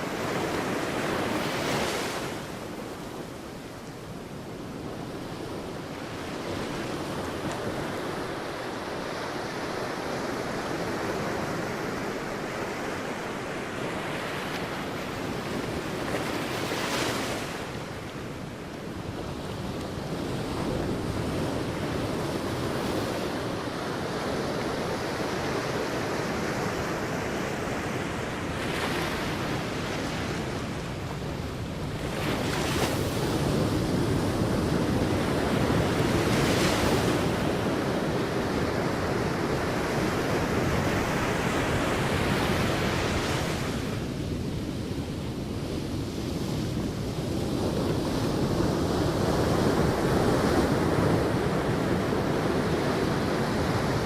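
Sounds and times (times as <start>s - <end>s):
sea waves breaking on beach: 0.0s - 54.0s
wind on microphone: 0.0s - 54.0s.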